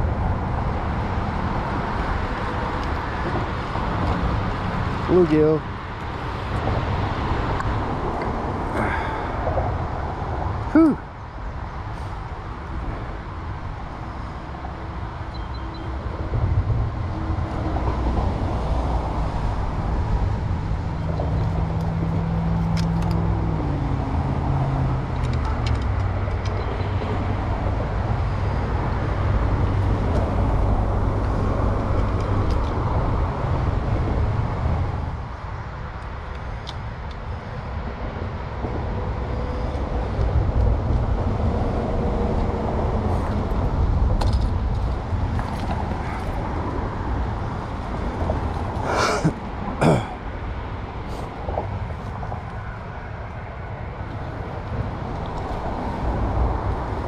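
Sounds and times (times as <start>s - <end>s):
vehicle engine rumbling: 0.0s - 57.0s.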